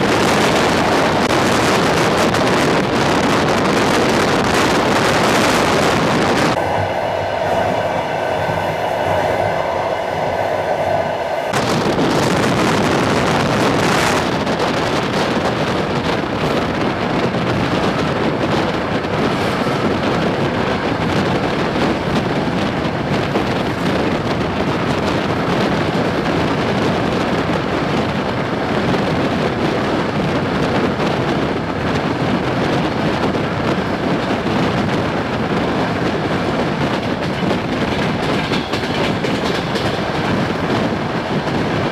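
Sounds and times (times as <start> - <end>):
train carriages running on rails: 0.0 - 41.9.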